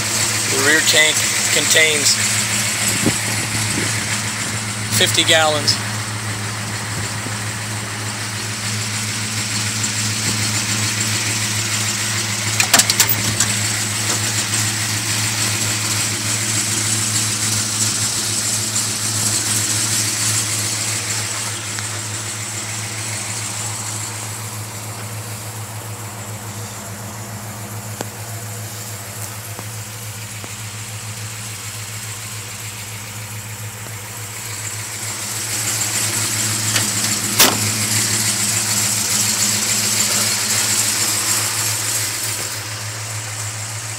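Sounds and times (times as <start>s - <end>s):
truck engine idling: 0.0s - 43.9s.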